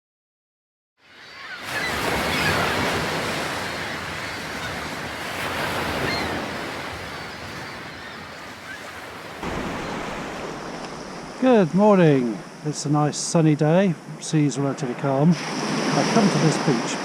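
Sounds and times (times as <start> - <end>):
sea waves washing onto beach: 1.6 - 17.0.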